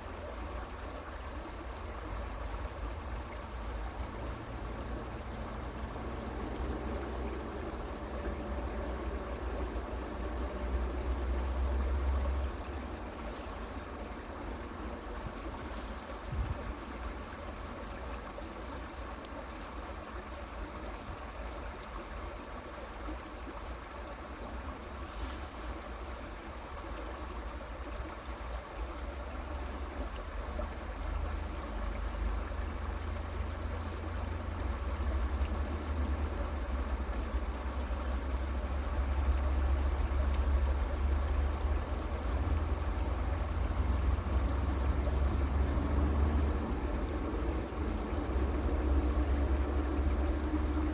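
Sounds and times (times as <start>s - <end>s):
creek water rushing: 0.0s - 50.9s.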